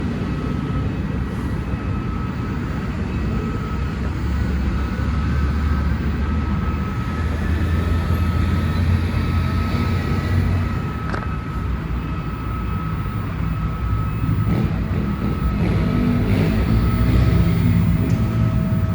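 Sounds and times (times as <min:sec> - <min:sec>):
diesel locomotive engine rumble: 0:00.0 - 0:18.9
steady high tone: 0:00.0 - 0:18.9.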